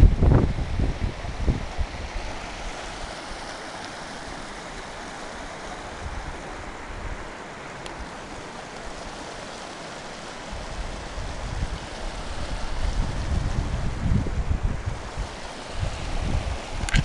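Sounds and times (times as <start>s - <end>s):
wind buffeting microphone: 0.0s - 3.5s, 5.4s - 17.0s
river water rushing over rocks: 0.0s - 17.0s.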